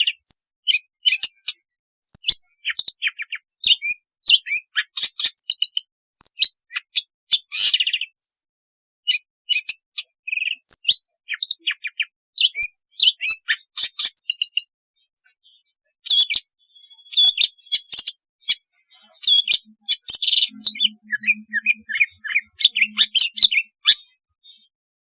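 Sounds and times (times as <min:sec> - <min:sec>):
bird singing chirps and raspy notes: 0:00.0 - 0:25.0.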